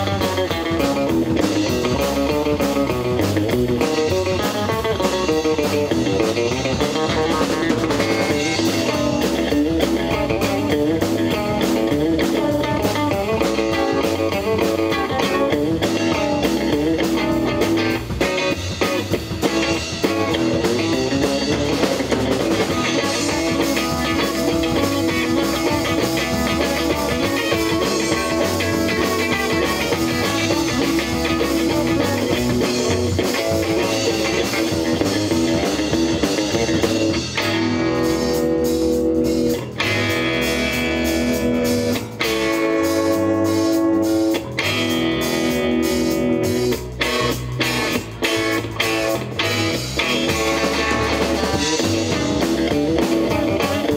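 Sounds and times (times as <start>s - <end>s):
drums: 0.0s - 53.9s
electric guitar: 0.0s - 53.9s.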